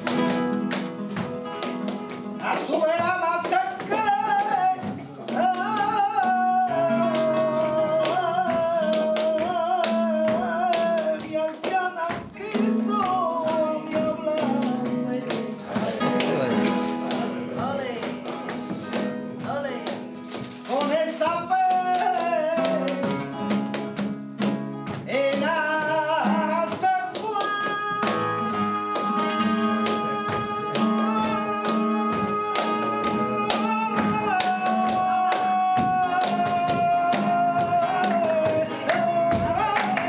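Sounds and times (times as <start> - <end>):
flamenco guitar: 0.0 - 40.0
hand clapping: 0.0 - 40.0
man singing flamenco: 0.0 - 40.0.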